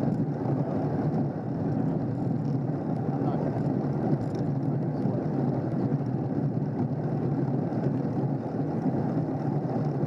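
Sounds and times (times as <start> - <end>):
wind and road rush: 0.0 - 10.0.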